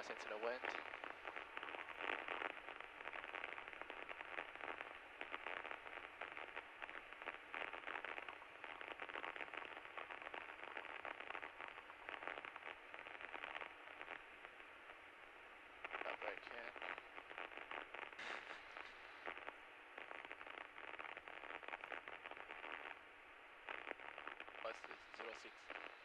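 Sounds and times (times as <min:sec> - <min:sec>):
crackling static hiss on intercom: 0:00.0 - 0:26.0
faint steady whine: 0:00.0 - 0:26.0.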